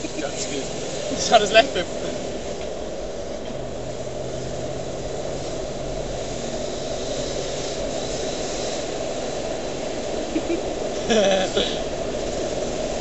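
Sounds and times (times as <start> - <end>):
car engine drone: 0.0 - 13.0
tyre noise on wet road: 0.0 - 13.0.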